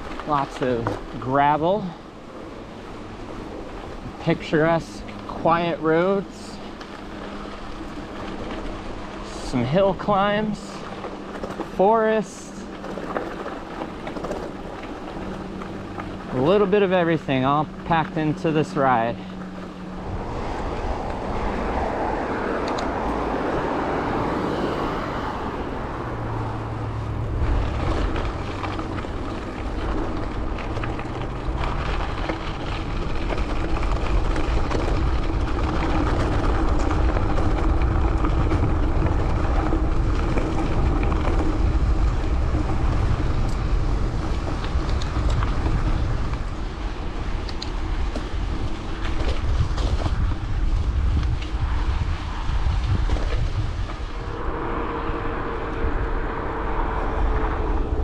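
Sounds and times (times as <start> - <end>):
bike tyres rolling on gravel: 0.0 - 58.0
wind rushing over microphone: 0.0 - 58.0.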